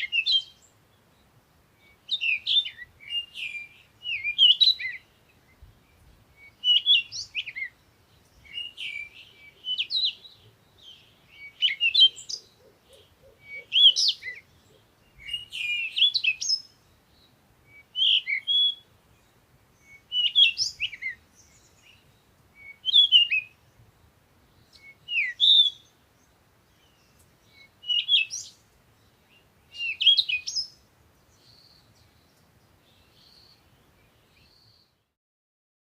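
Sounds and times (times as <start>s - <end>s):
songbird singing warbled phrases: 0.0s - 35.2s.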